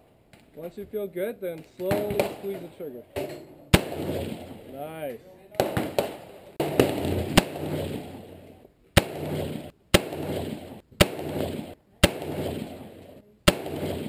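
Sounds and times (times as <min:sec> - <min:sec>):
rifle shots with echo: 0:01.9 - 0:04.8, 0:05.6 - 0:14.0.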